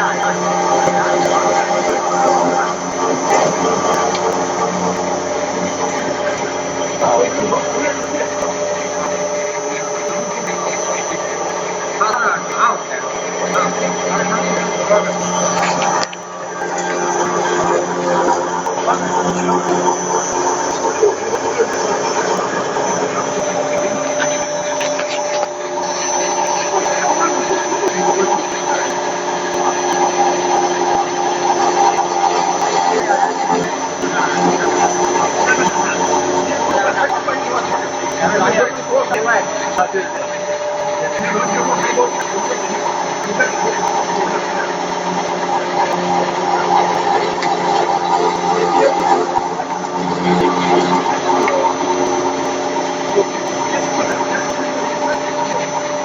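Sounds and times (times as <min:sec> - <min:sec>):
milling machine humming: 0:00.0 - 0:56.0.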